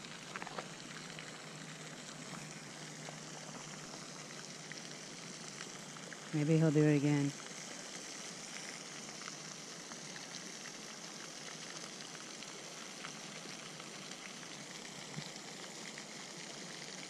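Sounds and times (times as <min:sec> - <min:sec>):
fountain splashing: 0:00.0 - 0:17.0.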